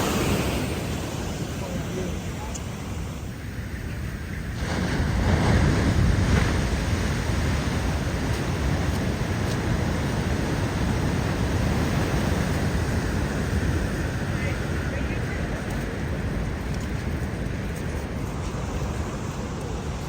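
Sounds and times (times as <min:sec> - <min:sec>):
waves breaking: 0:00.0 - 0:20.0
wind rumbling on microphone: 0:00.0 - 0:20.0.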